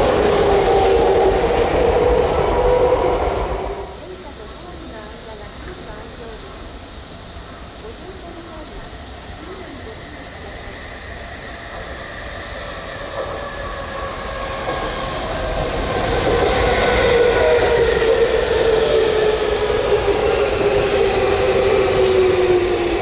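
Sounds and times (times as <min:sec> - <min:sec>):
electric train motors whining: 0:00.0 - 0:23.0.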